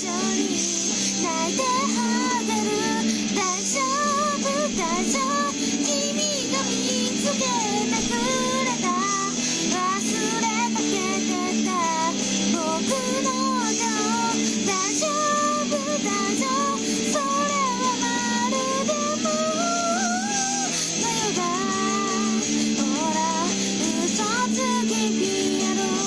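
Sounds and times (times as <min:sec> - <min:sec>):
high voice singing with vibrato: 0:00.0 - 0:26.0
instrumental backing track: 0:00.0 - 0:26.0.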